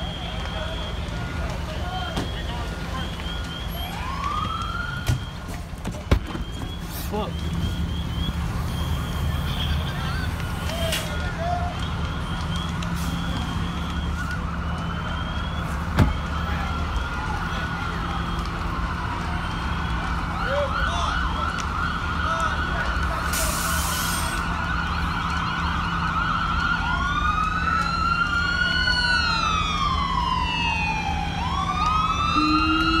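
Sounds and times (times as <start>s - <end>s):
emergency sirens wailing: 0.0s - 33.0s.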